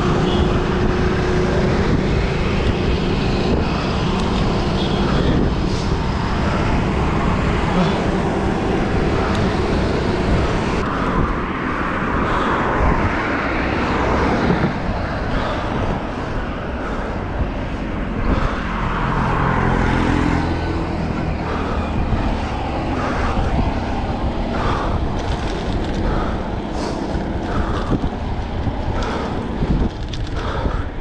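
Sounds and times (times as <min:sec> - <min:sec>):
traffic noise: 0:00.0 - 0:31.0
vehicle engine hum: 0:00.0 - 0:31.0
wind rush: 0:00.0 - 0:31.0.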